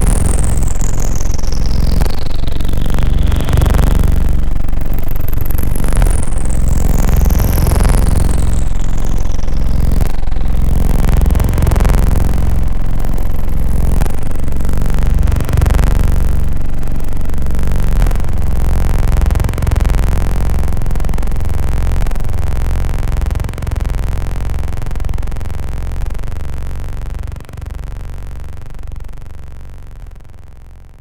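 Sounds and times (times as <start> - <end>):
loud low buzz: 0.0 - 31.0.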